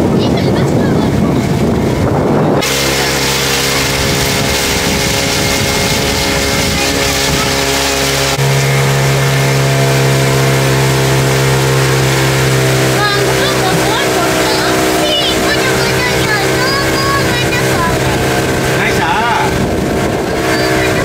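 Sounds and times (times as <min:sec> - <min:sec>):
rushing wind and water: 0:00.0 - 0:21.0
speedboat engine running: 0:00.0 - 0:21.0.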